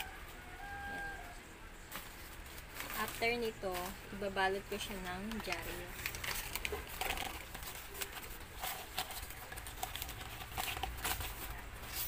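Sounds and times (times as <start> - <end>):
newspaper rustling and crinkling: 1.8 - 12.0.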